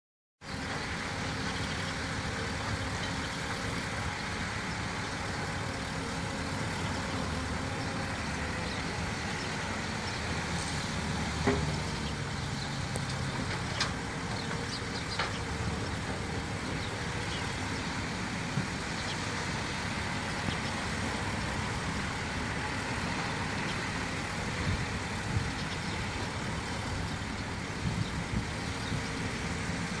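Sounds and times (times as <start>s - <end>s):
excavator diesel engine running: 0.5s - 30.0s.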